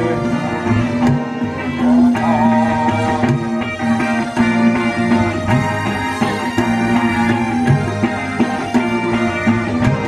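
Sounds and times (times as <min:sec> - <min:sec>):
guitar: 0:00.0 - 0:10.0
hand drum beat: 0:00.0 - 0:10.0
sustained keyboard notes: 0:00.0 - 0:10.0.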